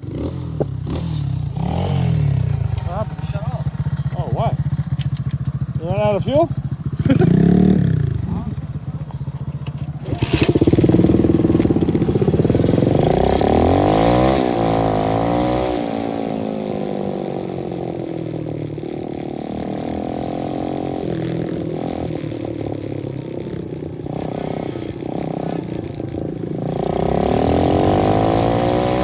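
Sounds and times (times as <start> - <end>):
dirt bike engine revving and idling: 0.0 - 29.0.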